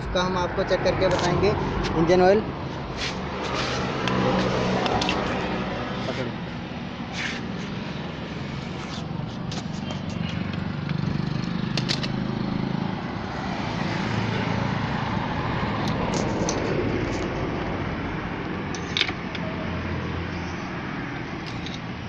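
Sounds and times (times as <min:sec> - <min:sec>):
traffic engine noise: 0:00.0 - 0:22.0.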